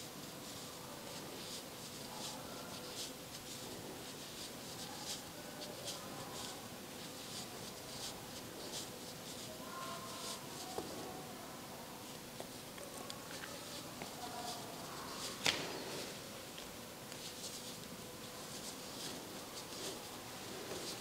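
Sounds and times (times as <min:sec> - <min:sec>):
crochet hook and yarn rustling: 0:00.0 - 0:11.0, 0:12.4 - 0:16.2, 0:17.1 - 0:21.0
low steady hiss: 0:00.0 - 0:21.0.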